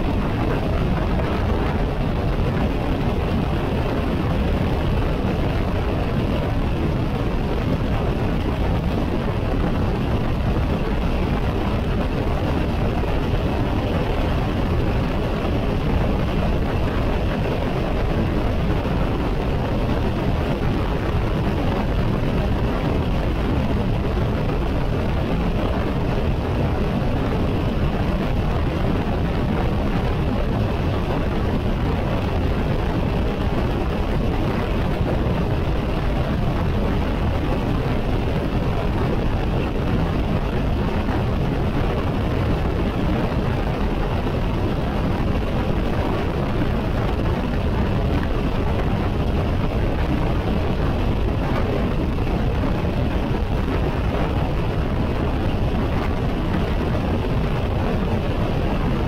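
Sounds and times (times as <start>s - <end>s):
motorcycle road noise: 0.0s - 59.0s
wind rush: 0.0s - 59.0s.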